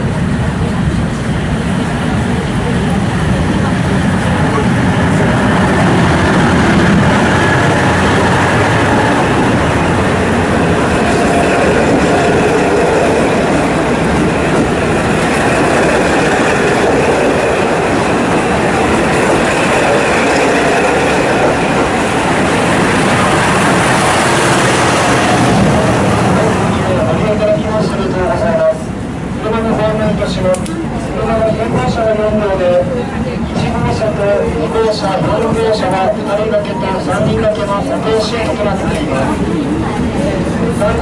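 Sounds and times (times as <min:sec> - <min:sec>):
train wheels on rails: 0:00.0 - 0:41.0.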